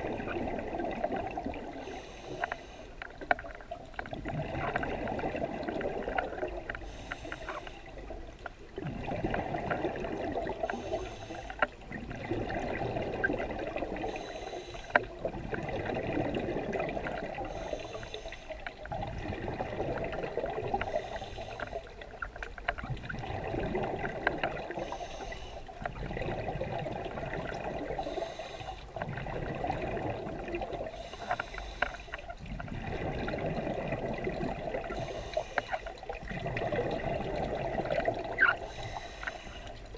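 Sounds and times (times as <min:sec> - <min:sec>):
exhaled air bubbling underwater: 0:00.0 - 0:39.9.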